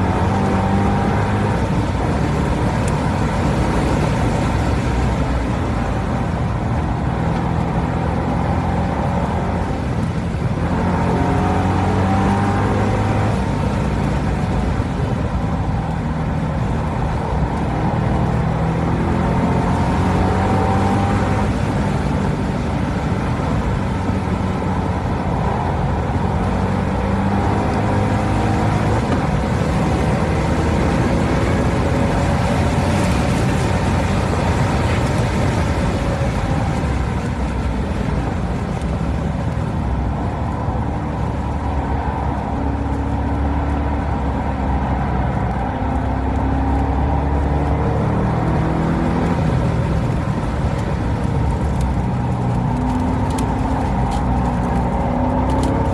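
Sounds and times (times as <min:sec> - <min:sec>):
car engine accelerating and shifting: 0:00.0 - 0:55.9
wind and tyre noise: 0:00.0 - 0:55.9.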